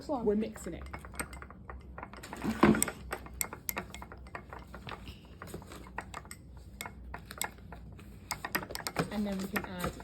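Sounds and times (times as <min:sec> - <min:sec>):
utensil stirring slime: 0:00.0 - 0:10.0.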